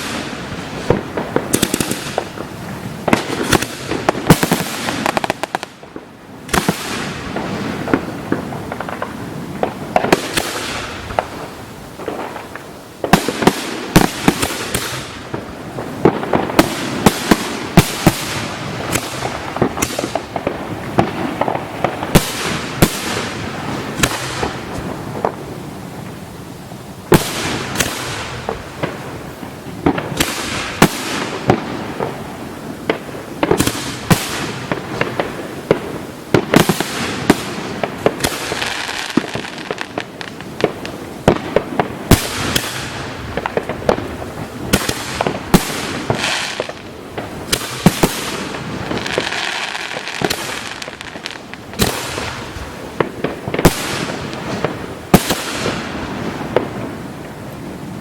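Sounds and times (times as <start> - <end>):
fireworks bangs: 0.0 - 58.0
fireworks hissing: 0.0 - 58.0.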